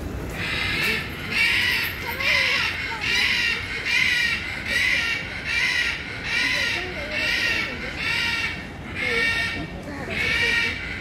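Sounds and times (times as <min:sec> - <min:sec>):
faint voices: 0:00.3 - 0:11.0
bird calling rhythmically: 0:00.4 - 0:11.0.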